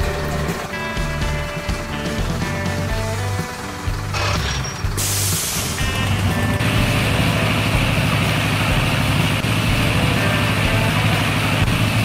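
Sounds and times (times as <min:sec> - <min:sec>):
fans rushing air: 0:00.0 - 0:12.0
truck engine running: 0:00.0 - 0:12.0.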